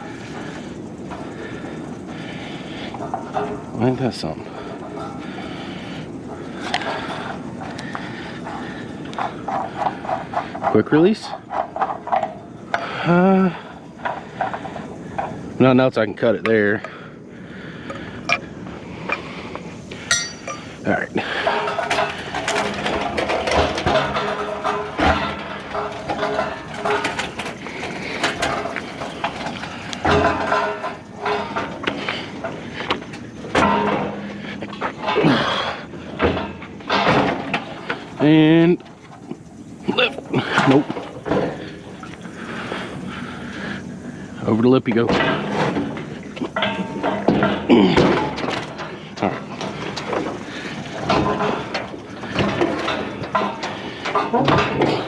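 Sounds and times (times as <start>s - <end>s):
scrap metal clanking in truck bed: 0.0s - 17.0s, 17.8s - 55.0s.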